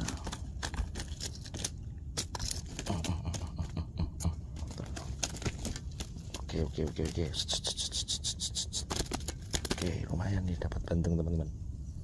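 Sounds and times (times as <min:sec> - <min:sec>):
rustling and crinkling: 0:00.0 - 0:10.7.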